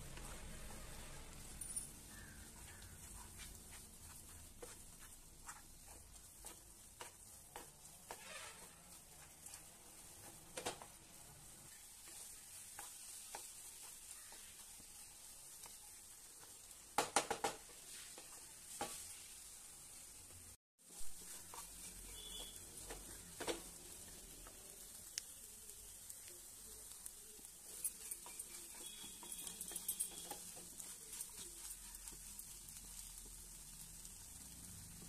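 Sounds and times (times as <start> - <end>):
faint sizzle: 0.0 - 35.0
spatula scraping a pan: 0.1 - 10.9, 11.7 - 16.8, 17.6 - 19.4, 20.9 - 25.5, 27.0 - 33.4.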